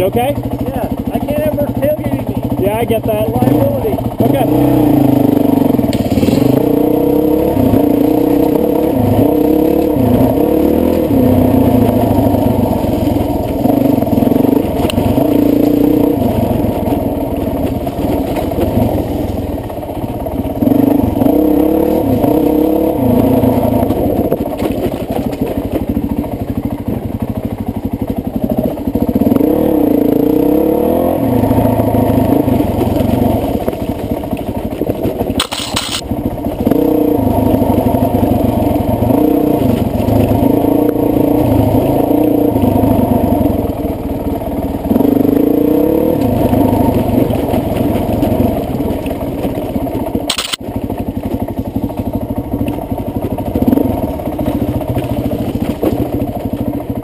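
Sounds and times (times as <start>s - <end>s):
dirt bike engine revving: 0.0s - 26.3s, 26.9s - 57.0s.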